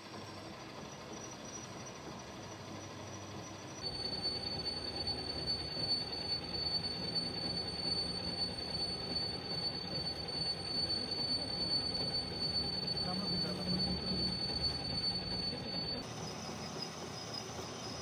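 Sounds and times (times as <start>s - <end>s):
machinery squealing and humming: 0.0s - 18.0s.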